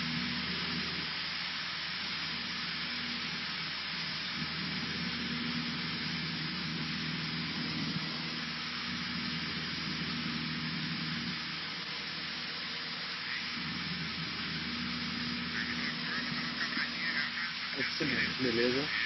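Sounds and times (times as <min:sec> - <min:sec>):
light aircraft engine and propeller drone: 0:00.0 - 0:19.0
rush of air noise: 0:00.0 - 0:19.0.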